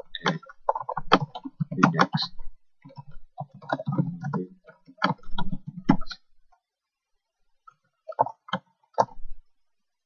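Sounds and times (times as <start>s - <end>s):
keyboard typing: 0.0s - 6.6s, 7.6s - 9.3s.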